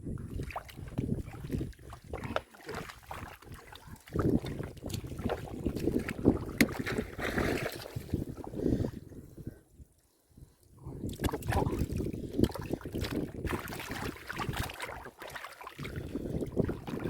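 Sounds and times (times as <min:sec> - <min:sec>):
muddy water sloshing: 0:00.1 - 0:09.4, 0:10.9 - 0:17.0.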